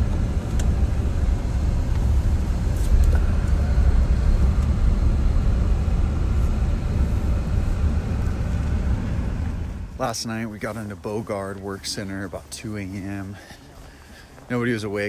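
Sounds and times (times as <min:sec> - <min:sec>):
vehicle engine and road rumble: 0:00.0 - 0:14.6.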